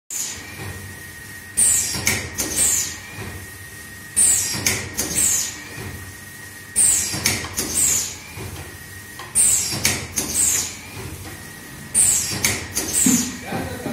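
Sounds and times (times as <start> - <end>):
packing machine clunks and hisses: 0.2 - 13.9.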